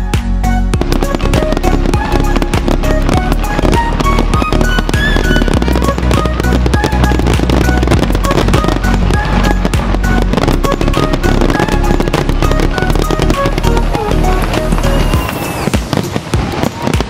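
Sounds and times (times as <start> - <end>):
music with deep bass: 0.0 - 16.0
fireworks crackling and popping: 0.0 - 17.0.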